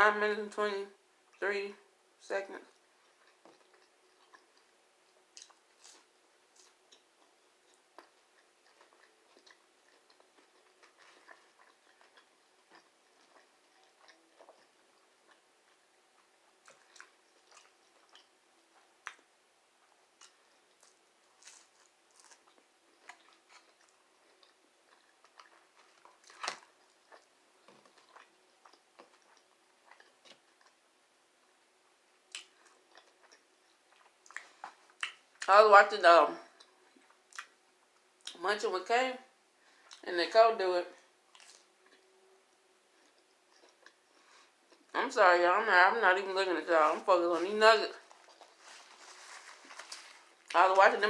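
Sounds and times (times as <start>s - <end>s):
chewing food: 2.7s - 31.6s, 32.2s - 35.5s, 36.4s - 38.4s, 41.3s - 45.0s, 47.3s - 50.9s.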